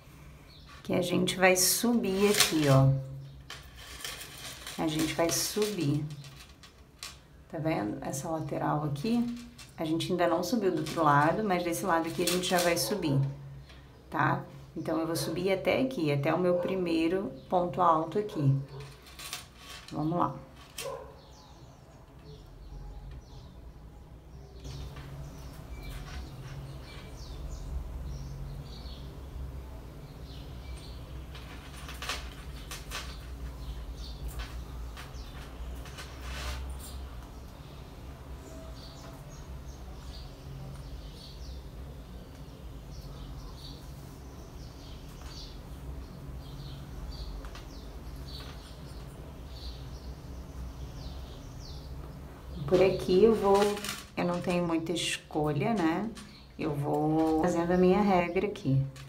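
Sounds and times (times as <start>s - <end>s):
small birds chirping: 0.0s - 19.2s, 19.9s - 59.0s.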